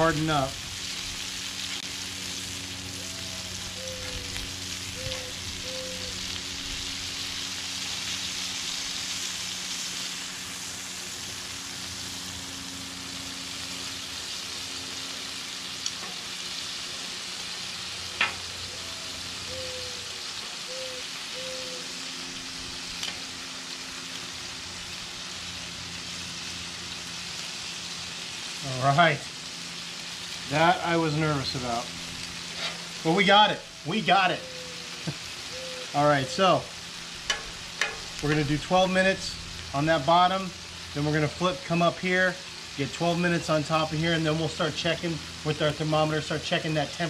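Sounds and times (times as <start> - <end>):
meat sizzling on a griddle: 0.0 - 47.0.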